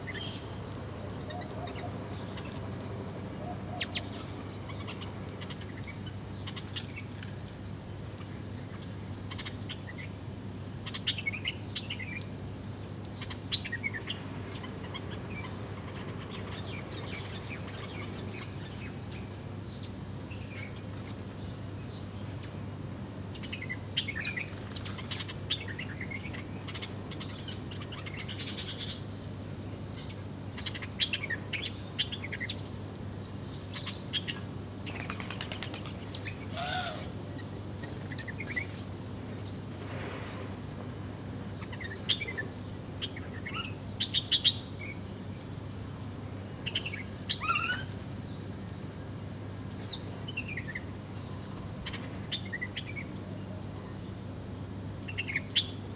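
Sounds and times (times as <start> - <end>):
small birds chirping: 0.0 - 10.2, 10.8 - 40.6, 41.3 - 54.4, 55.0 - 55.9.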